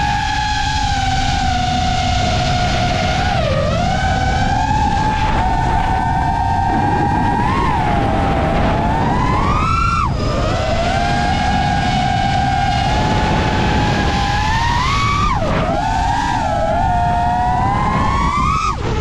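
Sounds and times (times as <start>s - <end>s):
quadcopter motors whining: 0.0s - 19.0s
steady low rumble: 0.0s - 19.0s.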